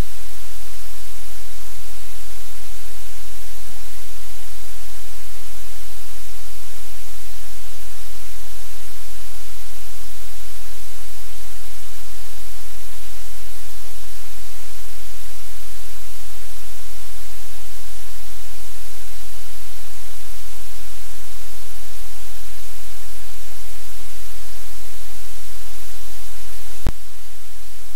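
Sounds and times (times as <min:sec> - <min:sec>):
electronic static hiss: 0:00.0 - 0:27.9.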